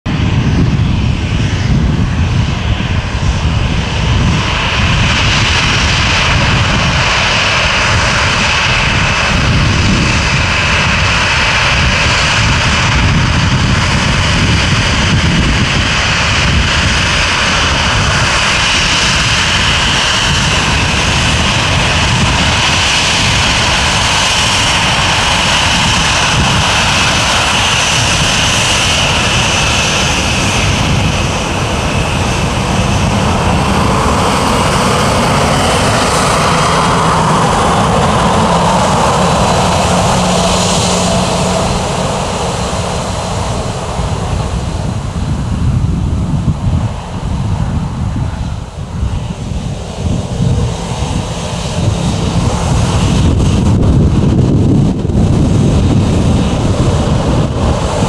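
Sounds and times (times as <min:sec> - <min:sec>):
jet engines at taxi power: 0:00.0 - 0:58.0
high fan whine: 0:00.1 - 0:58.0.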